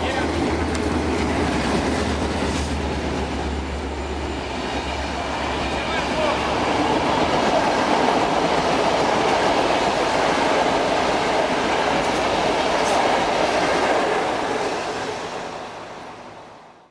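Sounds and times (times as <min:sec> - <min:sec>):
rumble of wheels on rail: 0:00.0 - 0:16.9.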